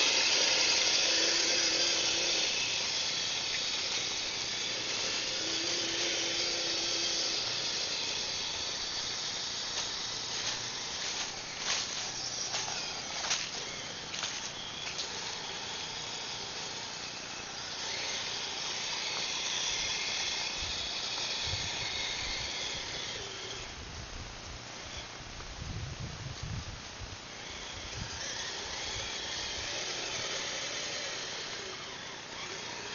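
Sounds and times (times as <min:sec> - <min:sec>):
tracks clicking and rattling: 0:00.0 - 0:23.7, 0:27.4 - 0:32.9
electric motor whine: 0:00.0 - 0:25.2, 0:27.1 - 0:32.9.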